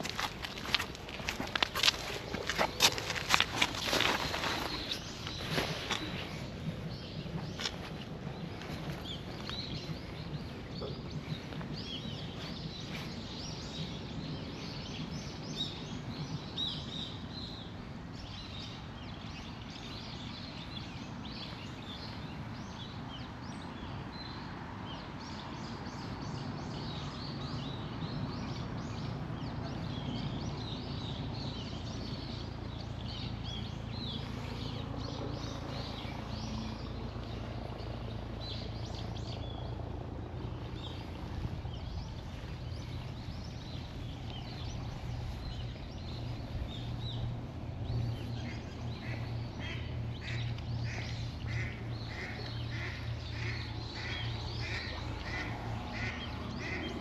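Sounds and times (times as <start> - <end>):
steady low rumble: 0.0 - 24.6, 25.2 - 57.0
small birds chirping: 0.0 - 57.0.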